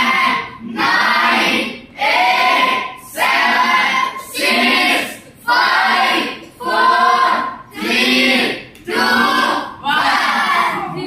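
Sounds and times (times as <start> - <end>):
voices chanting together: 0.0 - 11.0.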